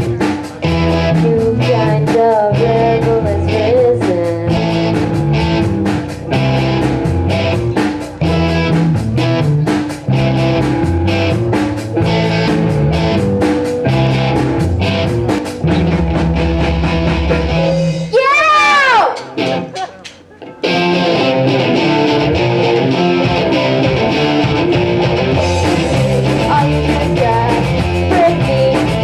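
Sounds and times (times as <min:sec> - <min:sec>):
bass guitar: 0:00.0 - 0:29.0
distorted guitar chords: 0:00.0 - 0:29.0
drum kit beat: 0:00.0 - 0:29.0
high bending guitar note: 0:04.4 - 0:18.1, 0:19.2 - 0:29.0.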